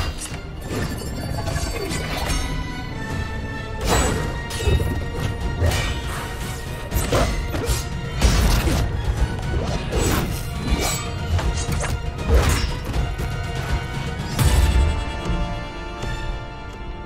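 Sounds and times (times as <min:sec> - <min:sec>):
film score music: 0:00.0 - 0:17.0.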